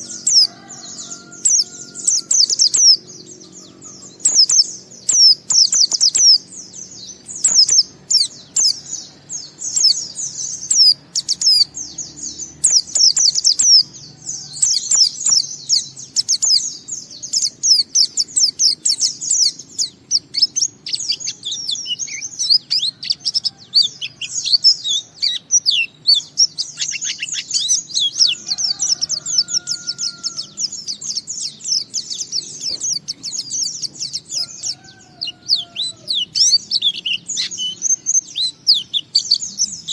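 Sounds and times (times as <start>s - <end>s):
bird twittering rapidly: 0.0s - 39.9s.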